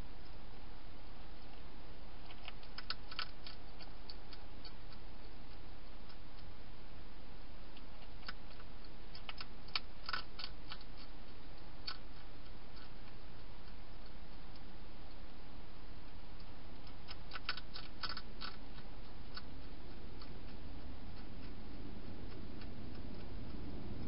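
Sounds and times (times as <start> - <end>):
steady hiss: 0.0 - 24.0
hedgehog crunching dry food: 2.2 - 6.5, 7.7 - 15.2, 16.0 - 24.0.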